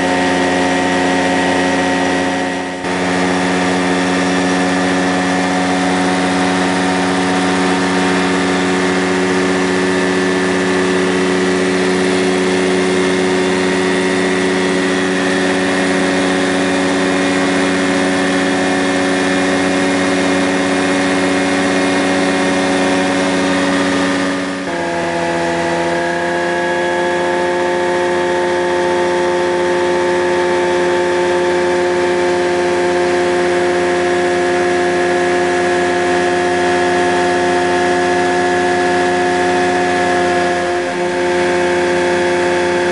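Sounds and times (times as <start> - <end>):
light aircraft engine and propeller: 0.0 - 42.9.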